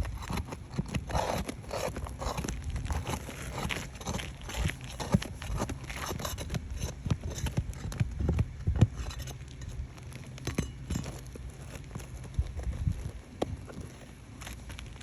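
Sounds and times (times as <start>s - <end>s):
knocks and scrapes on roof shingles: 0.0s - 15.0s
steady low rumble: 0.0s - 15.0s.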